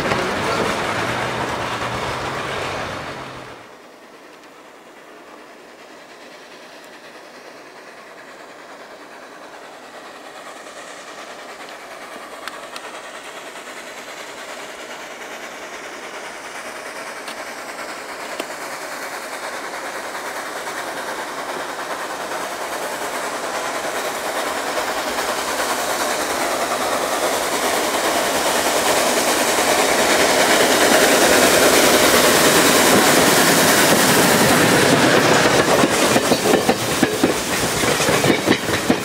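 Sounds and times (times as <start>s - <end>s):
steam locomotive working: 0.0s - 39.0s
train sound with low hum: 0.0s - 39.0s.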